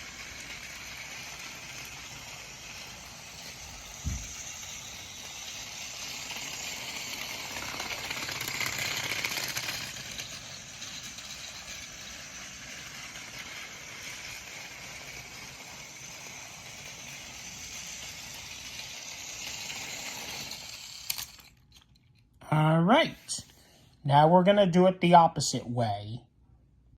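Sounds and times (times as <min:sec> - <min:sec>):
toy train motor whir: 0:00.0 - 0:22.2
toy train wheels rattling: 0:00.0 - 0:22.2.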